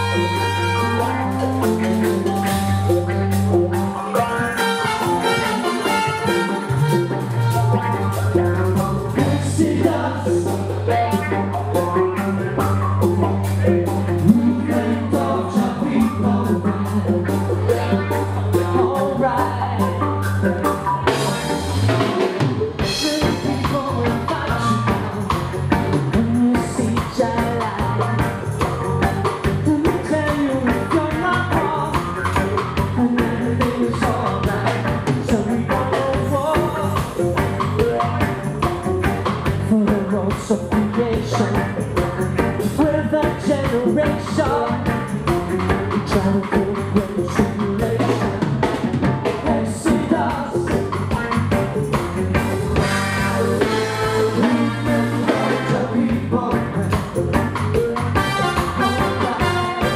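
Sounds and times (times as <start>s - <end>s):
upbeat rock song with vocals: 0.0s - 59.9s.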